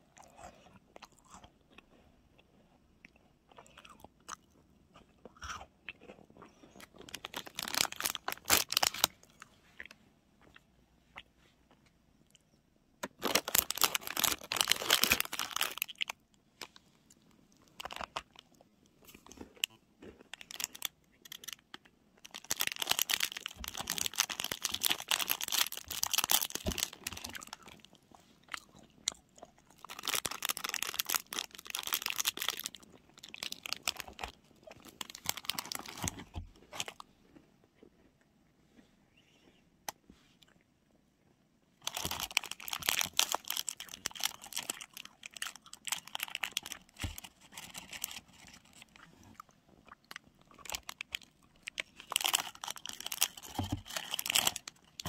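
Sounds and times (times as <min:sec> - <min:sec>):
crunching of crunchy snack: 0:00.0 - 0:11.3, 0:13.0 - 0:16.8, 0:17.5 - 0:38.2, 0:41.8 - 0:55.0.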